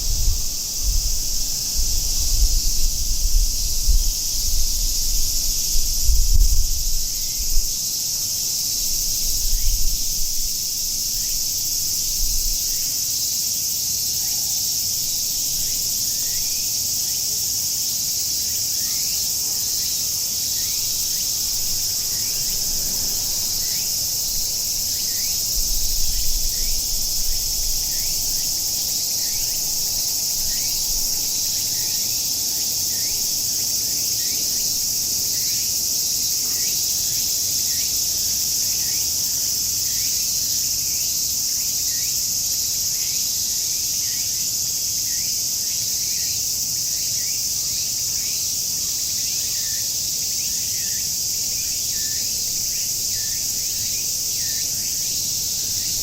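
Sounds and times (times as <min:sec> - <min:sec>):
cicadas shrilling drone: 0:00.0 - 0:56.0.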